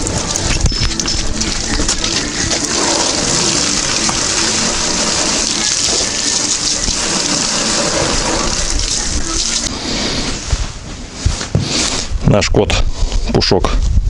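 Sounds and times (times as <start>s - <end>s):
hose water spraying on plastic: 0.0s - 12.2s.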